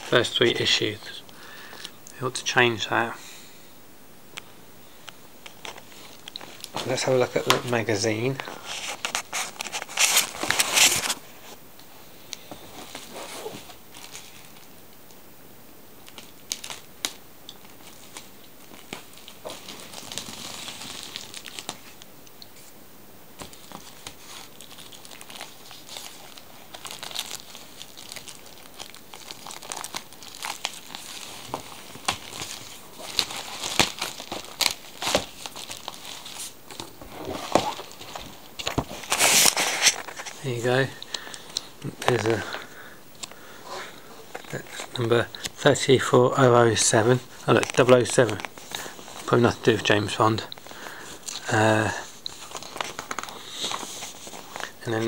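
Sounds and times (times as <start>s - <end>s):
plastic wrapping crinkling: 5.0s - 11.6s, 12.3s - 15.1s, 16.0s - 22.7s, 23.4s - 55.0s.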